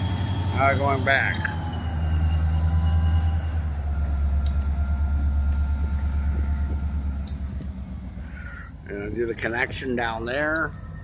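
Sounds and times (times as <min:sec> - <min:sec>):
diesel locomotive engine rumbling: 0:00.0 - 0:11.0
high whining tones: 0:00.0 - 0:11.0.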